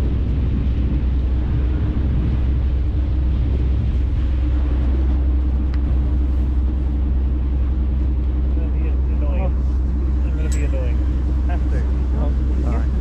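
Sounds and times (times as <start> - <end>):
boat engines rumbling: 0.0 - 13.0.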